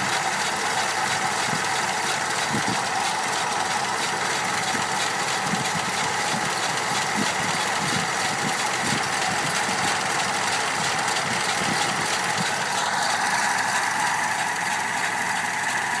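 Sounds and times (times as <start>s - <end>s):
engine running with rhythmic ticking: 0.0s - 16.0s.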